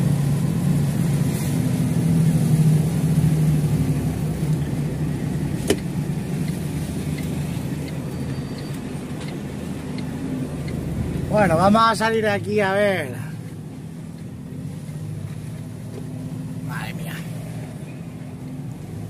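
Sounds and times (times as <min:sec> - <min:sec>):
diesel engine running at low revs: 0:00.0 - 0:19.0.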